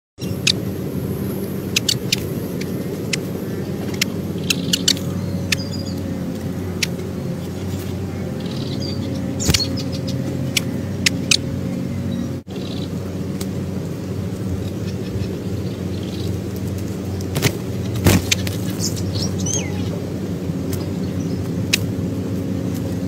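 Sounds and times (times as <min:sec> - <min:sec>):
low engine hum: 0:00.2 - 0:23.0.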